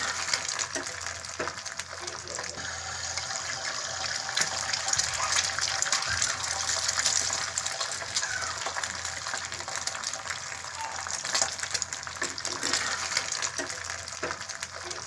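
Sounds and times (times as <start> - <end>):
egg sizzling in a pan: 0.0 - 15.0.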